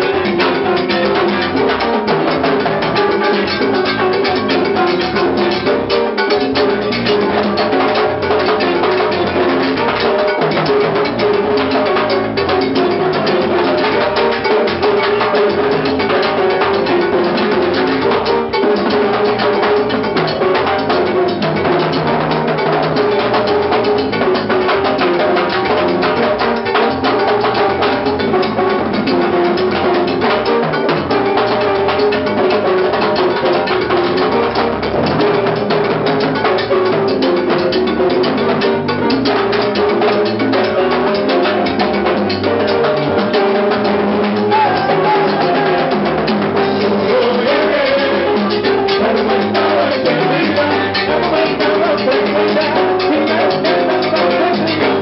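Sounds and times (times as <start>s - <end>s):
salsa band playing: 0.0s - 55.0s.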